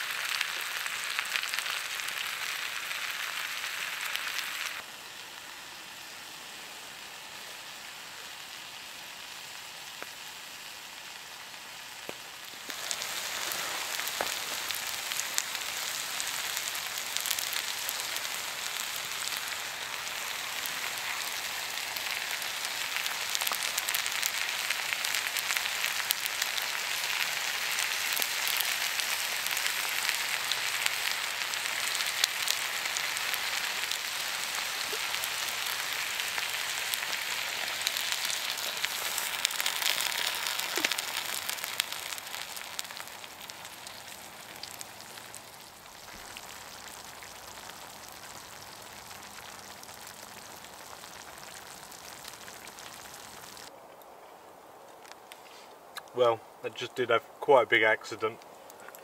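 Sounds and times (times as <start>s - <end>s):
food sizzling in a pan: 0.0s - 53.7s.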